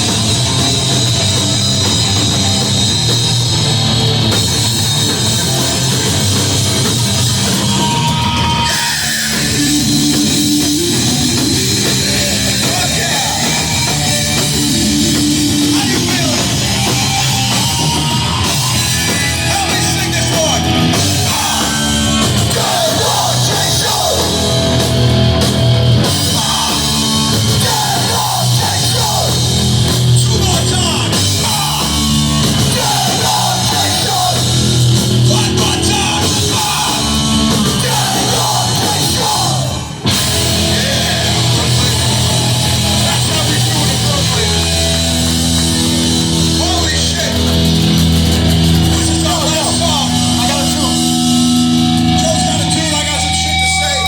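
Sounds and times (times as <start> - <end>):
bass guitar: 0.0 - 54.0
distorted guitars: 0.0 - 54.0
drum kit: 0.0 - 54.0.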